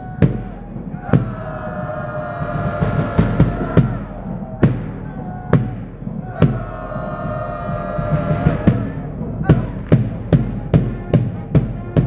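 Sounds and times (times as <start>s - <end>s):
massed voices: 0.0s - 10.7s
bass drum beats: 0.0s - 12.0s
brass band long notes: 0.0s - 12.0s.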